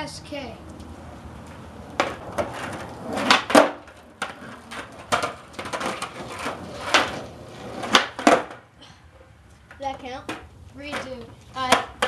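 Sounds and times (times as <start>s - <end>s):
skateboard knocking on concrete: 1.4s - 8.7s, 9.5s - 12.0s.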